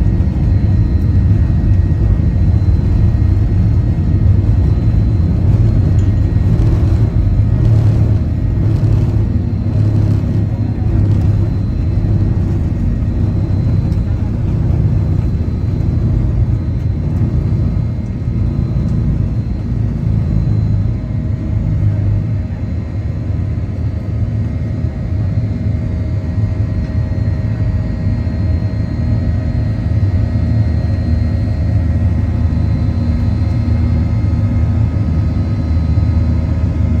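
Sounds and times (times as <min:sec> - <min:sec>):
faint steady whines: 0:00.0 - 0:37.0
jet engine cabin rumble: 0:00.0 - 0:37.0.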